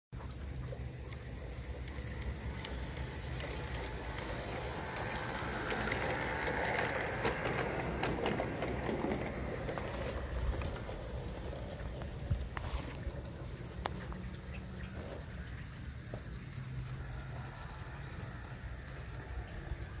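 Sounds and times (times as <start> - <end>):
model train wheels clicking: 0.2 - 20.0.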